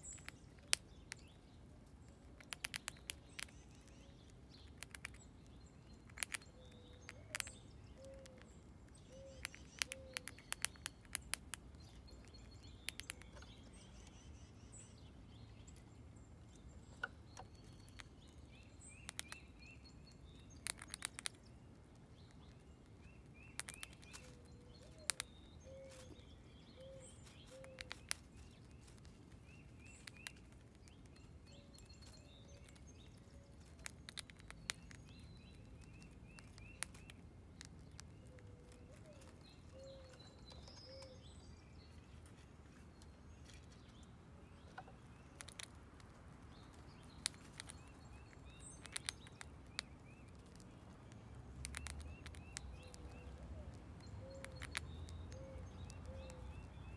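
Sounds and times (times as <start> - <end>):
birds chirping: 0.0 - 56.9
squirrel crunching corn kernels: 0.0 - 56.9.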